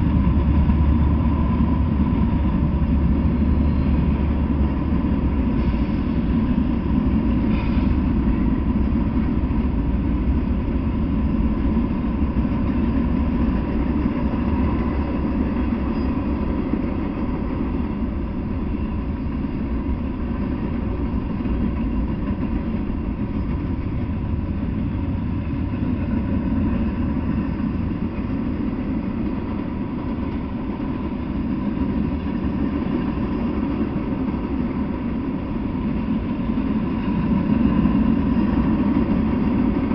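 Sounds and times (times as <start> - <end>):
diesel locomotive engine: 0.0 - 39.9
train cars rumbling on rails: 0.0 - 39.9.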